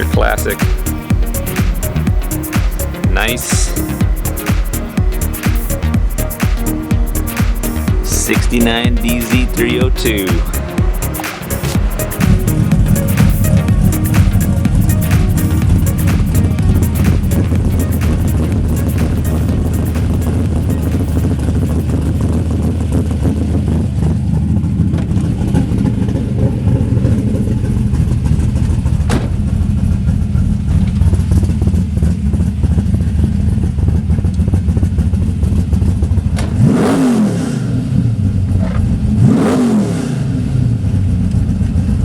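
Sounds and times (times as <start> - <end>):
engine rumbling and revving: 0.0 - 42.0.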